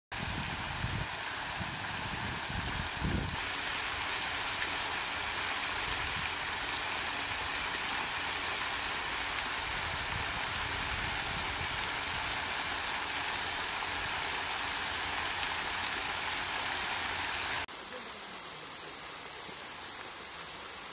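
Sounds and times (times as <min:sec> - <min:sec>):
falling water spray hissing: 0:00.2 - 0:20.9.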